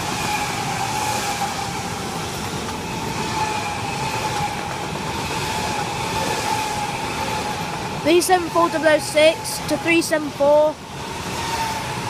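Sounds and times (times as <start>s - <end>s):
constant whine: 0.0s - 12.0s
high-speed train rushing: 0.0s - 12.0s.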